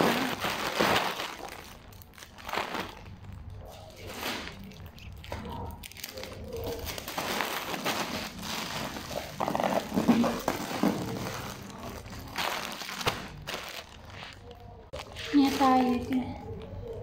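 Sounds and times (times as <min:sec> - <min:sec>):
packing tape crackling: 0:00.0 - 0:17.0
plastic bag crinkling: 0:00.0 - 0:17.0.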